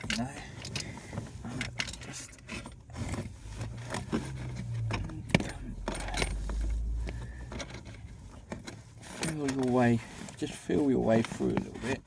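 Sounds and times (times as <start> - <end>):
cable scraping under plastic trim: 0.0 - 12.0.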